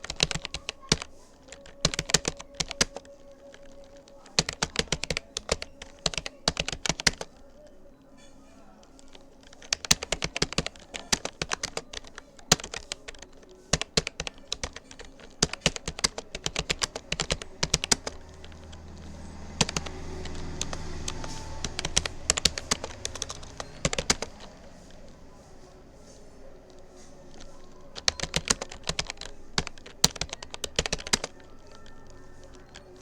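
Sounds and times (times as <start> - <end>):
keyboard typing: 0.0 - 33.0.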